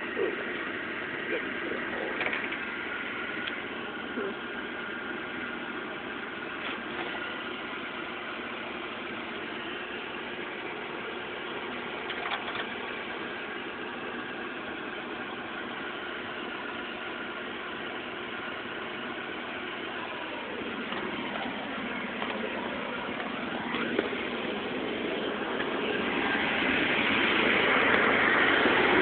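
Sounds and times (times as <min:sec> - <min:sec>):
mechanical drone with whine: 0:00.0 - 0:29.0.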